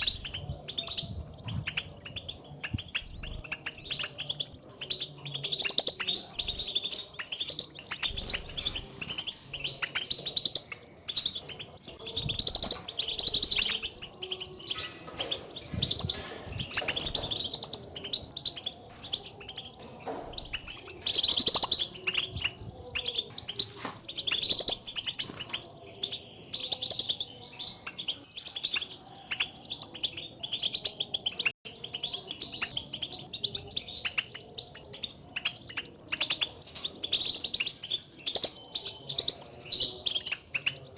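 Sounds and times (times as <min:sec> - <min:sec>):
finches twittering calls: 0:00.0 - 0:40.9.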